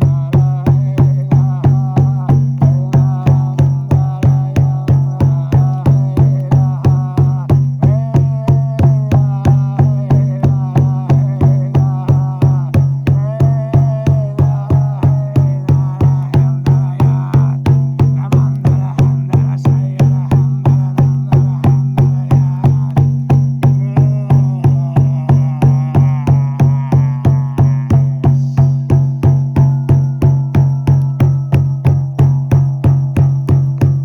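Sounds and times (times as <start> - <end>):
frame drum beaten in rhythm: 0.0 - 34.0.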